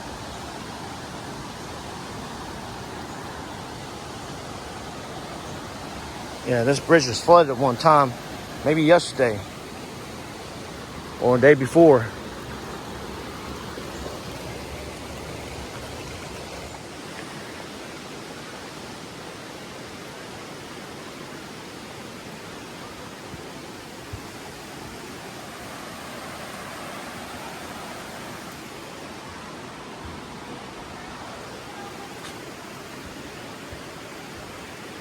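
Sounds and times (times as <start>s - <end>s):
running water rushing: 0.0s - 35.0s.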